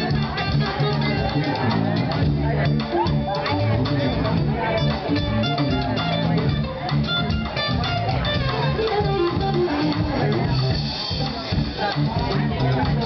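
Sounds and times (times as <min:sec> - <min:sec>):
electric guitar: 0:00.0 - 0:13.0
live blues-rock band: 0:00.0 - 0:13.0.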